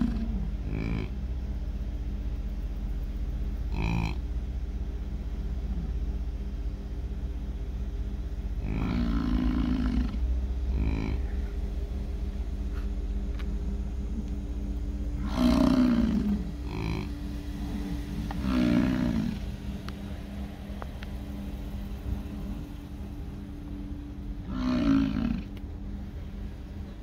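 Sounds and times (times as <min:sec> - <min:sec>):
bison bellowing: 0:00.0 - 0:01.6, 0:03.4 - 0:06.0, 0:08.5 - 0:20.6, 0:21.2 - 0:27.0.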